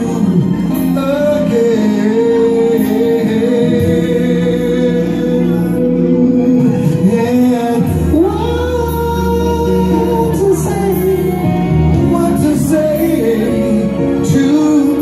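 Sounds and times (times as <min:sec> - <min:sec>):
man singing into microphone: 0:00.0 - 0:15.0
recorded backing music: 0:00.0 - 0:15.0.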